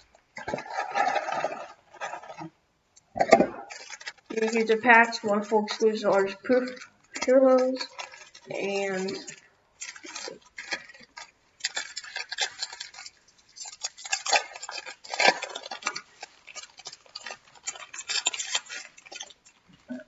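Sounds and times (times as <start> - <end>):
foil wrapper crinkling: 0.0 - 19.9
cards rustling: 0.1 - 2.5, 3.2 - 19.9.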